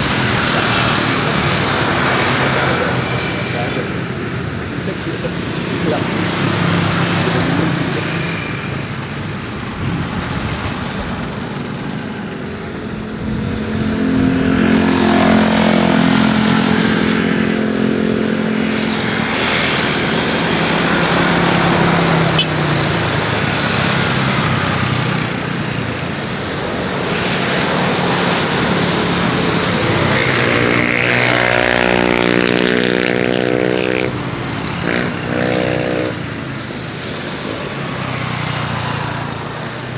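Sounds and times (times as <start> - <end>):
engines passing by: 0.0 - 39.9.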